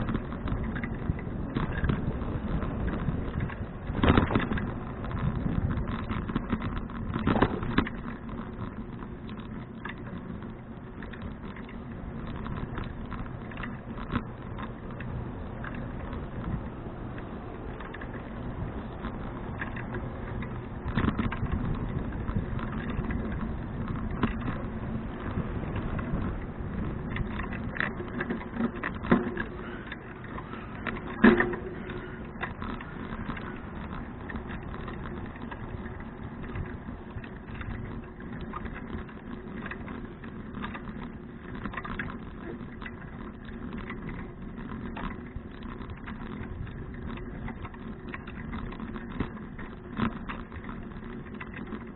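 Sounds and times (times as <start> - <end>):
bicycle rattling over bumps: 0.0 - 51.9
tyre and wind rumble: 0.0 - 51.9.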